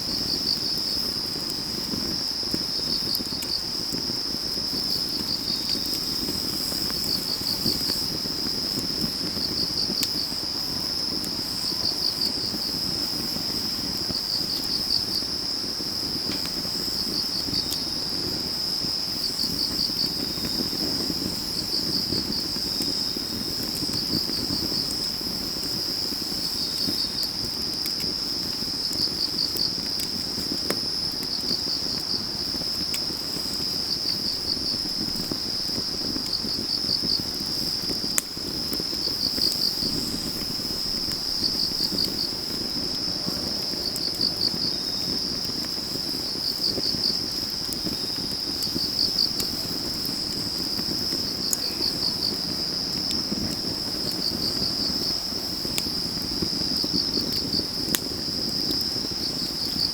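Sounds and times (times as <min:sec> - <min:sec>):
crickets chirping: 0:00.0 - 0:59.9
wood fire crackling: 0:00.0 - 0:59.9.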